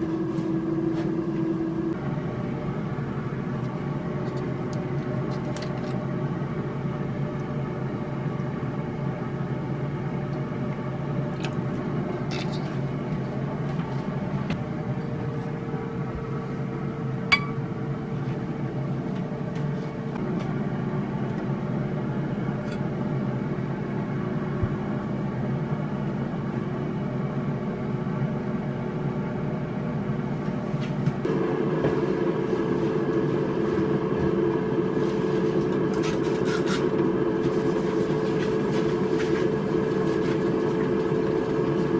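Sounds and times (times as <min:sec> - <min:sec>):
air fryer fan hum: 0:00.0 - 0:41.9.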